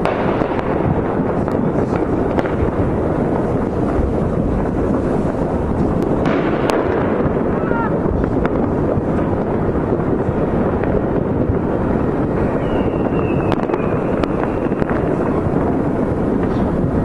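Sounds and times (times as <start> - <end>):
distant firework cracks: 0.0 - 17.0
firework rocket whistle: 0.0 - 17.0
wind rumble on microphone: 0.0 - 17.0.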